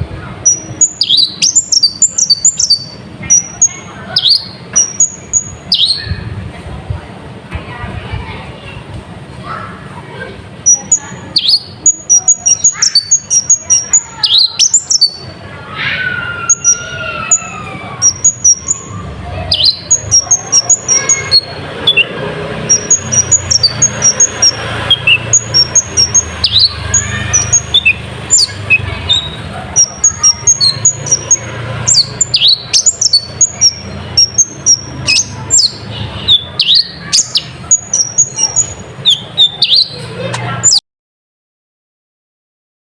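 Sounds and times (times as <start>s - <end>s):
bird chirping and twittering: 0.0s - 6.9s, 10.6s - 40.8s.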